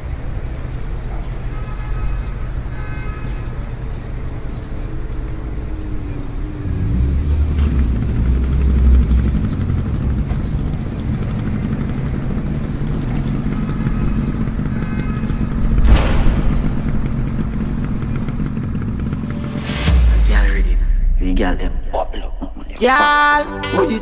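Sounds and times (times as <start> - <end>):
small motorcycle engine running: 0.0 - 20.0.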